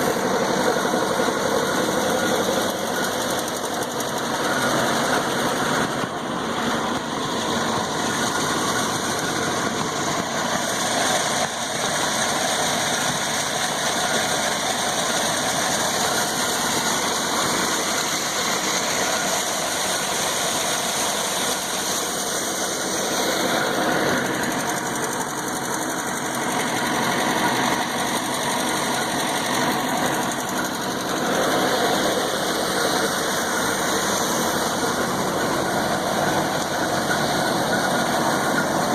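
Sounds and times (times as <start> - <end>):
combine harvester engine running: 0.0 - 38.9
mud pump: 0.0 - 38.9.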